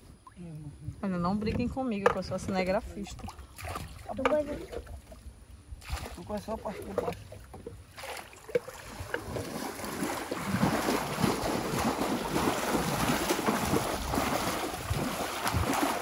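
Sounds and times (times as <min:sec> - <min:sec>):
water splashing and churning: 0:02.8 - 0:16.0.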